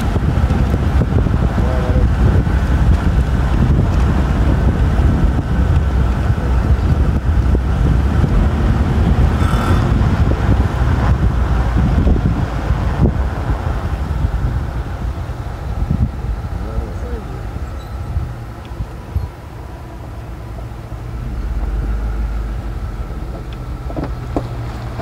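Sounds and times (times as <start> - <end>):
car and tyres rumbling: 0.0 - 25.0
wind buffeting microphone: 0.0 - 25.0.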